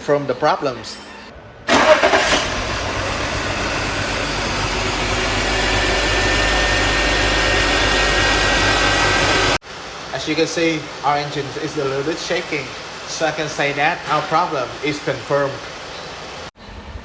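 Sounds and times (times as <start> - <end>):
car engine idling with misfires: 1.7 - 16.5.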